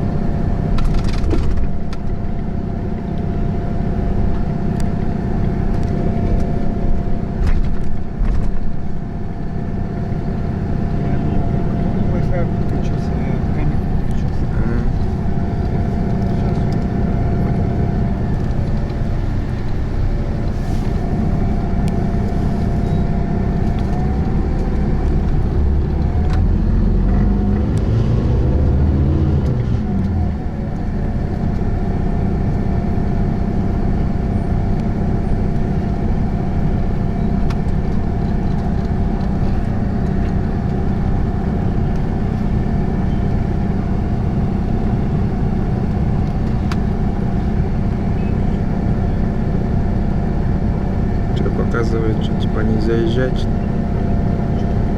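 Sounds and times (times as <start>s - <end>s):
bus engine rumble: 0.0s - 54.9s
constant whine: 0.0s - 54.9s.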